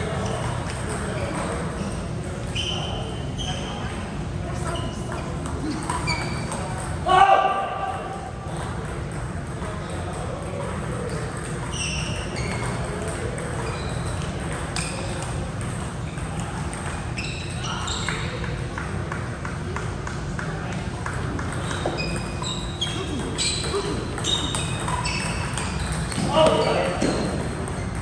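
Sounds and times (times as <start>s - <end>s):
shoes squeaking on court floor: 0.0s - 7.0s, 8.4s - 28.0s
low rumble of large hall: 0.0s - 28.0s.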